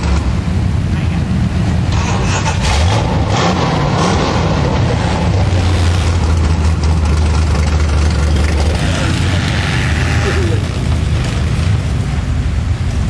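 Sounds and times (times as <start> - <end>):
atv engines revving: 0.0 - 13.0.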